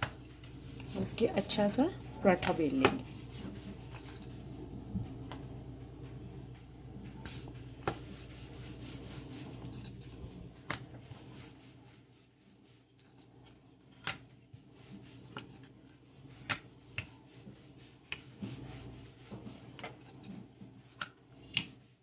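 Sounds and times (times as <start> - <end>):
rolling pin rubbing on dough: 0.0 - 22.0.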